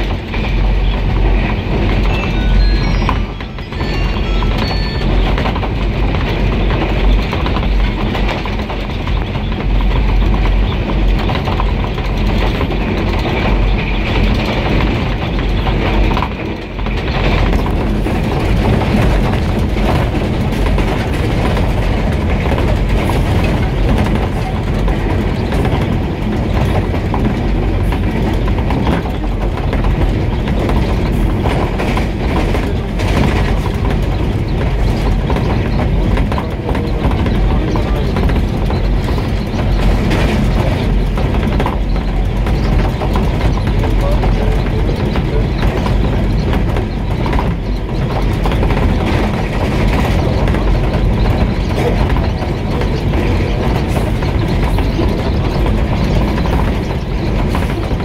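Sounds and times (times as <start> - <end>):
clickety-clack of rail joints: 0.0 - 58.0
locomotive engine running: 0.0 - 58.0
wheels on rails: 0.0 - 58.0.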